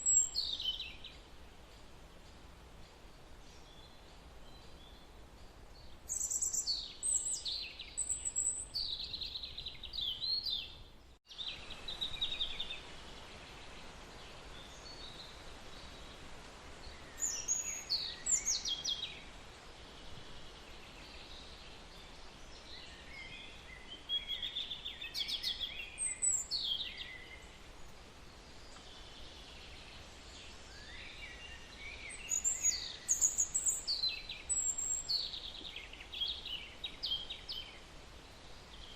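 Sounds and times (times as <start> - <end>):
birds chirping and trilling: 0.0 - 16.2, 16.8 - 38.9
faint background hiss: 0.0 - 38.9.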